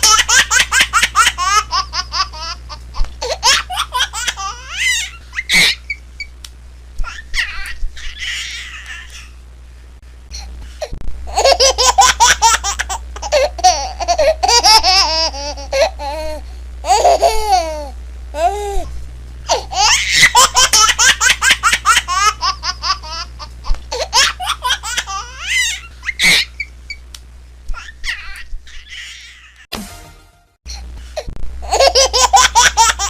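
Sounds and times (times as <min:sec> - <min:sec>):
baby laughing and squealing: 0:00.0 - 0:06.0, 0:07.0 - 0:09.4, 0:11.3 - 0:18.8, 0:19.5 - 0:27.0, 0:27.7 - 0:29.7, 0:31.6 - 0:33.0
steady low hum: 0:00.0 - 0:33.0.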